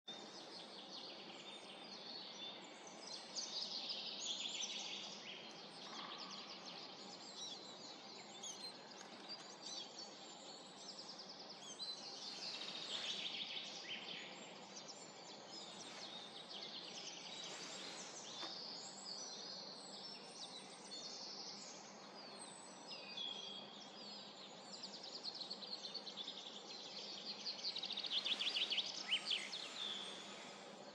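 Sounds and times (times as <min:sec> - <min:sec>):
songbirds singing and chirping: 0:00.0 - 0:30.9
outdoor background noise: 0:00.1 - 0:30.9.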